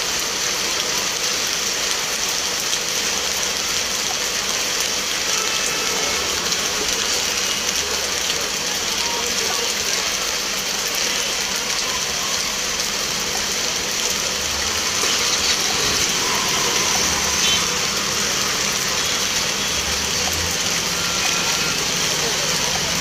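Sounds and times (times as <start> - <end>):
rain on wet street: 0.0 - 23.0.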